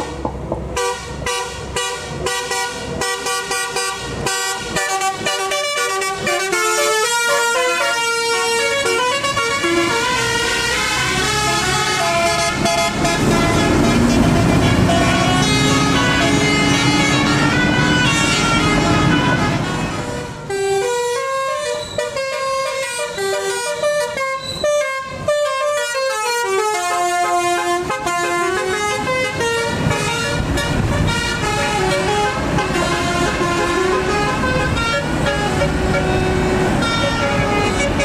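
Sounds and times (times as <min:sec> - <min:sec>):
bus engines rumbling: 0:00.0 - 0:38.0
passing traffic: 0:00.0 - 0:38.0
bus horn playing a tune: 0:00.8 - 0:38.0.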